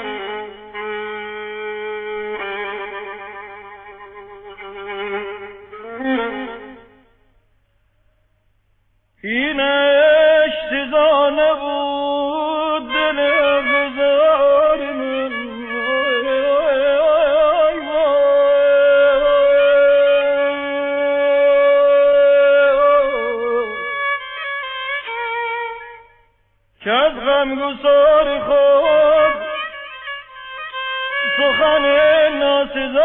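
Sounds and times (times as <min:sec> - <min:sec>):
solo violin: 0:00.0 - 0:07.2, 0:12.4 - 0:26.2, 0:27.1 - 0:33.0.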